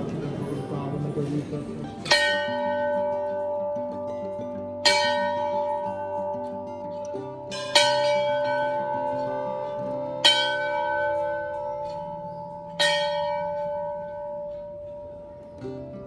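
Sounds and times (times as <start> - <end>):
metal bell ringing: 2.0 - 15.4.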